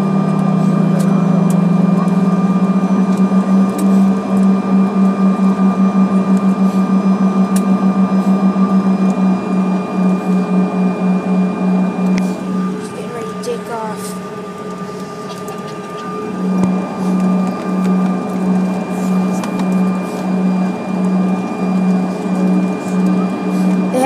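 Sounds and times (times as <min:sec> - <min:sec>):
jet engines idling drone: 0:00.0 - 0:24.0.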